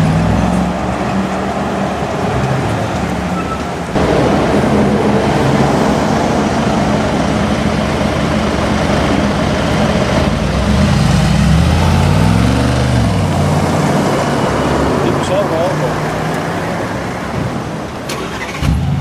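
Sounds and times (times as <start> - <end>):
car engine revving loudly: 0.0 - 19.0.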